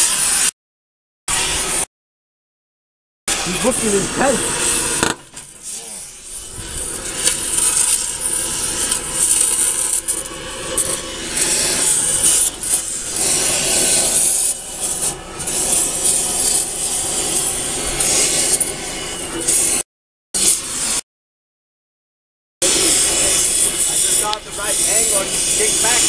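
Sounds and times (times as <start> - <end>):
saw cutting metal pipe: 0.0 - 0.5, 1.3 - 1.9, 3.3 - 19.8, 20.4 - 21.0, 22.6 - 26.0.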